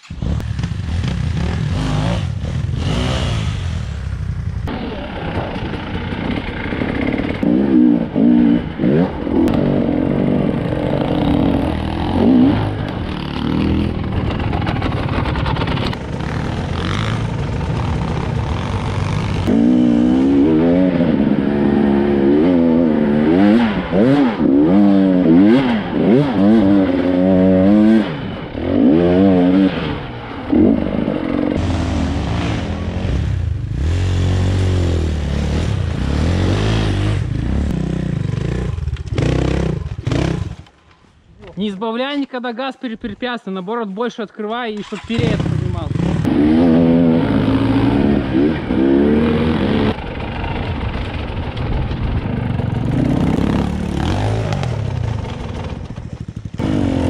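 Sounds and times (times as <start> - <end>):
dirt bike engine revving: 0.0 - 40.6, 44.8 - 57.0.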